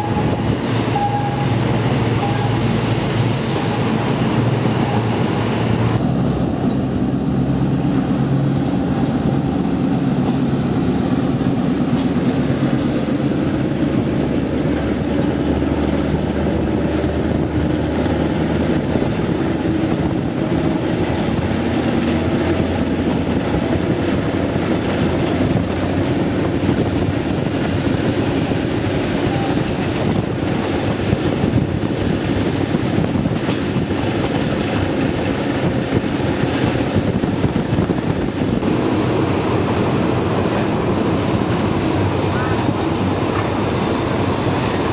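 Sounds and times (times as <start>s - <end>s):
train wheels rumbling on track: 0.0s - 44.9s.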